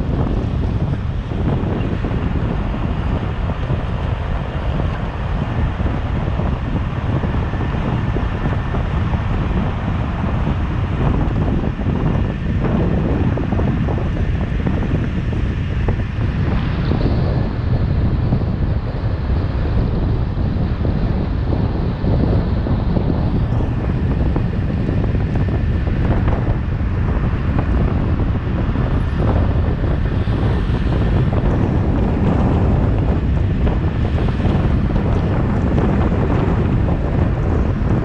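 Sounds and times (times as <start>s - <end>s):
road and tyre rumble: 0.0s - 38.0s
wind buffeting microphone: 0.0s - 38.0s.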